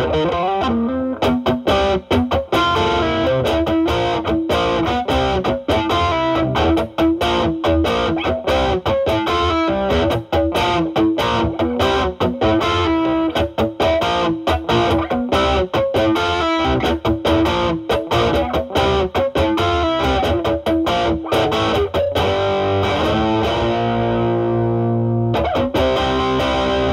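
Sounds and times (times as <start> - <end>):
overdriven electric guitar: 0.0 - 26.9.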